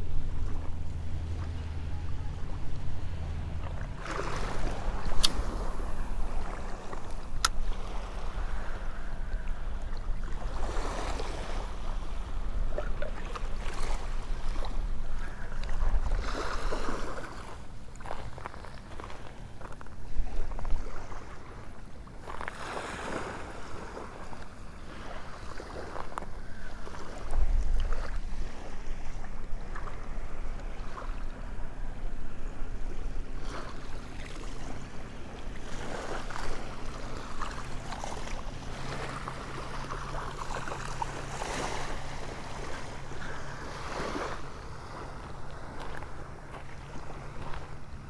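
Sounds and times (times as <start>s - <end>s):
low steady drone: 0.0s - 18.0s, 26.2s - 48.0s
small waves lapping: 0.0s - 48.0s.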